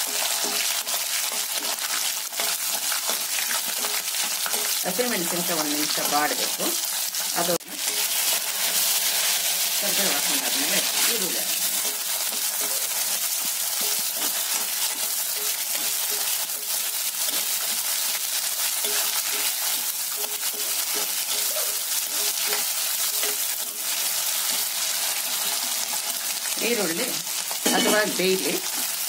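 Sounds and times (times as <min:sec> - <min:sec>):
steel spoon scraping pan: 0:00.0 - 0:06.7, 0:07.4 - 0:26.2, 0:27.6 - 0:28.3
onions sizzling in hot oil: 0:00.0 - 0:29.0.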